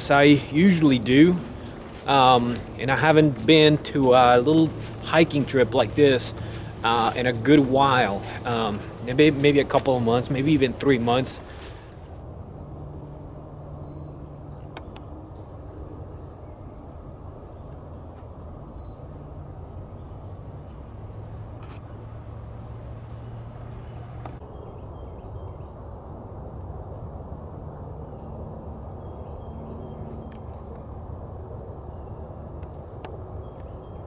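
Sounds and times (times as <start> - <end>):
low rush of woodland ambience: 0.0 - 34.0.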